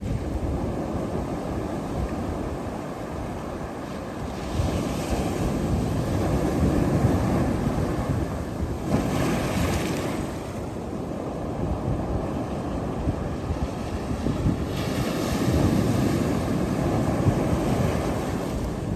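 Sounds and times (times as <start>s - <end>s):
surf washing onto a beach: 0.0s - 18.9s
wind buffeting the microphone: 0.0s - 18.9s.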